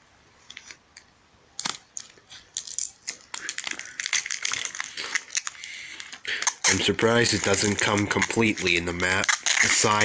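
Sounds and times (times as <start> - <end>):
plastic film crinkling: 1.6 - 10.0.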